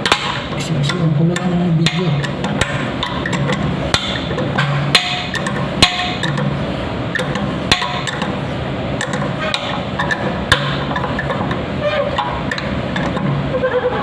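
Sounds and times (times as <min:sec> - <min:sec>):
hard parts clicking and knocking: 0:00.0 - 0:08.4, 0:09.0 - 0:11.6, 0:12.2 - 0:13.4.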